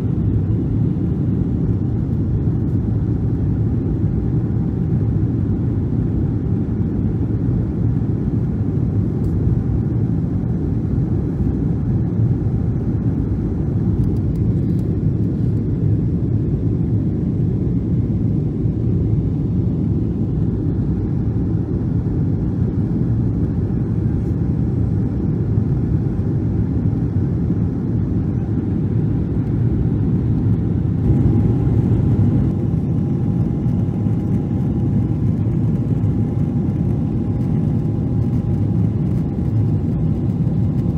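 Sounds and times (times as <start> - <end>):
faint steady whine: 0.0 - 40.9
jet cabin rumble: 0.0 - 40.9.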